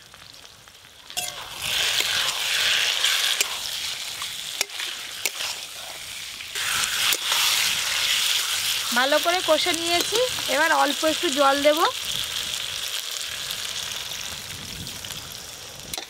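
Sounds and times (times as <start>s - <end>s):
curry sizzling in a wok: 0.0s - 16.0s.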